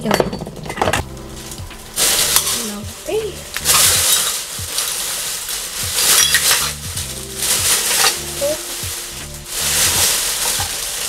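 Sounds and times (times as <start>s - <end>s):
background music with beat: 1.0s - 11.0s
plastic bag rustling: 1.0s - 11.0s.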